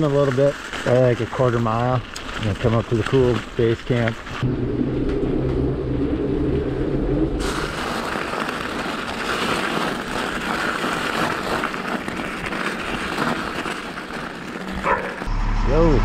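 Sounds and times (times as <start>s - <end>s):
bike tyres crunching over gravel: 0.0s - 4.4s, 5.6s - 16.0s
bike tyres rumbling on wooden planks: 0.0s - 15.3s.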